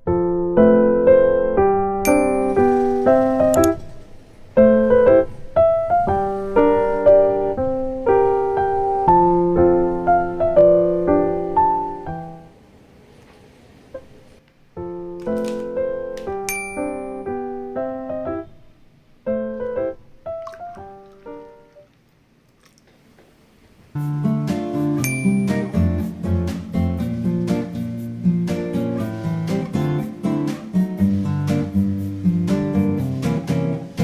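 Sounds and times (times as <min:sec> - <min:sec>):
light piano tune: 0:00.0 - 0:12.7, 0:13.9 - 0:22.0, 0:23.9 - 0:34.0.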